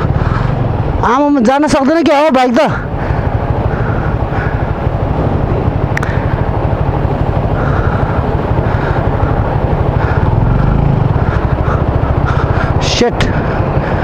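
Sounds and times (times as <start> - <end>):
motorcycle engine pulsing: 0.0 - 14.0.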